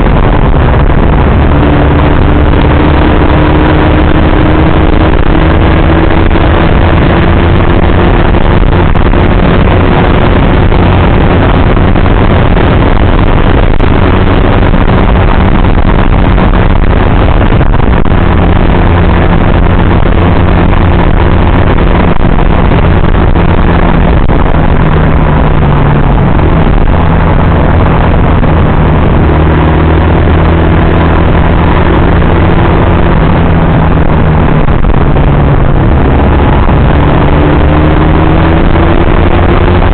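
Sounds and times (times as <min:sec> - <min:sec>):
motorcycle engine cruising: 0:00.0 - 0:39.9
road noise: 0:00.0 - 0:39.9
wind noise on microphone: 0:00.0 - 0:39.9.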